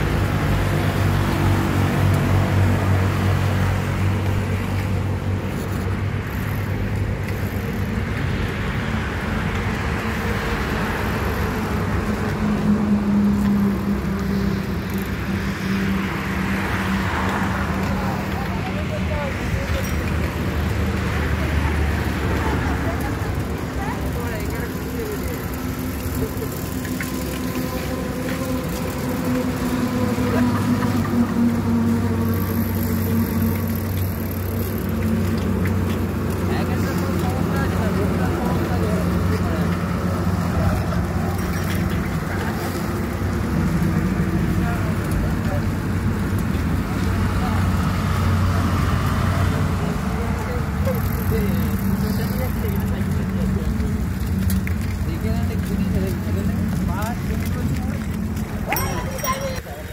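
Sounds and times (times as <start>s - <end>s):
road and wind noise: 0.0s - 59.9s
vehicle engine humming: 0.0s - 59.9s.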